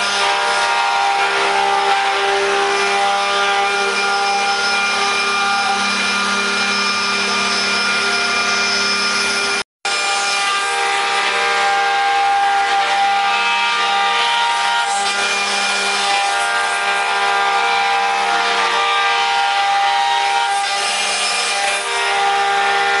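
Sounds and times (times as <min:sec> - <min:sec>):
cutters rasping in wood: 0:00.0 - 0:23.0
spindle motors whining: 0:00.0 - 0:23.0.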